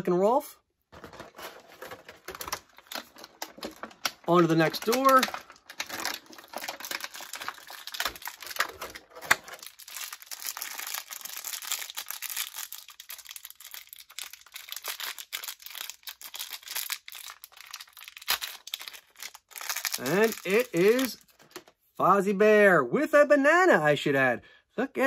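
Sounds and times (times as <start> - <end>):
plastic wrapper crinkling: 0.9 - 21.8.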